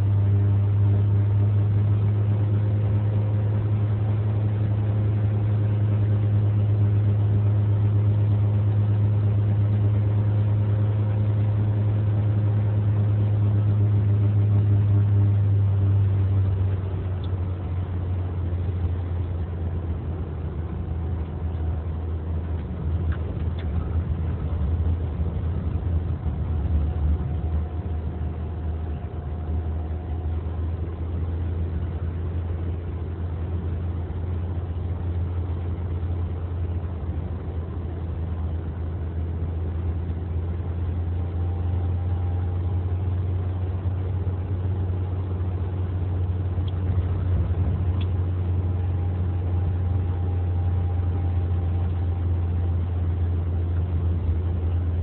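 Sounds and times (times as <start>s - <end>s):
car engine hum: 0.0s - 55.0s
tyre road noise: 0.0s - 55.0s.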